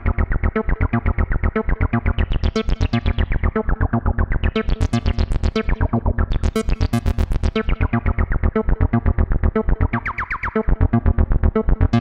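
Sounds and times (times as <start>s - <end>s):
synthesizer bass pattern: 0.0s - 12.0s.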